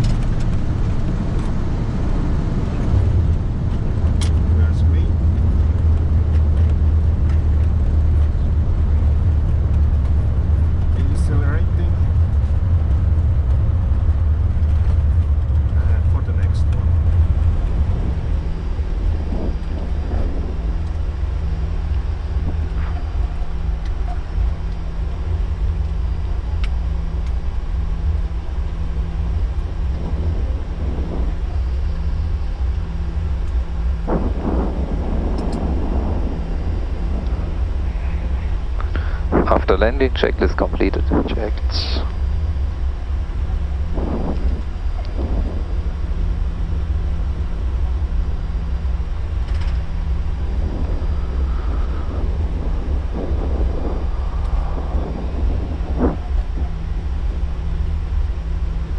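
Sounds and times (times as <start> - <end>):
airliner cockpit rumble and hum: 0.0 - 58.9.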